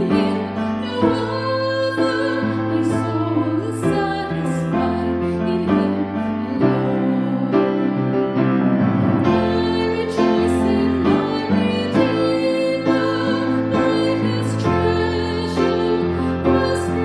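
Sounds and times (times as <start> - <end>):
woman singing: 0.0 - 8.1, 9.2 - 17.0
piano chords: 0.0 - 17.0.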